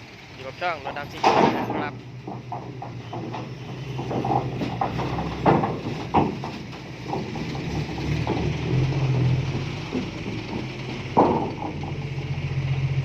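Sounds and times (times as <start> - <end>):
diesel truck engine idling: 0.0 - 13.0
sharp knocks: 1.1 - 12.3.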